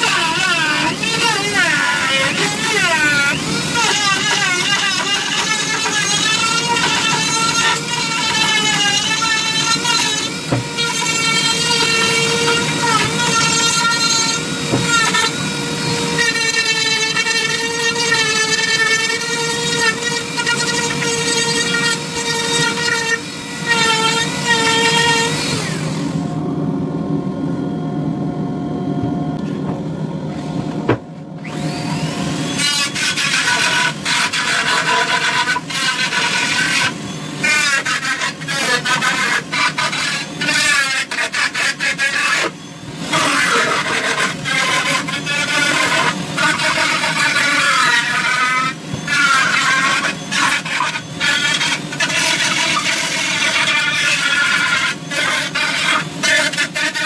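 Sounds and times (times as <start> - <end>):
rotary tool grinding wood: 0.0 - 26.1, 31.4 - 57.0.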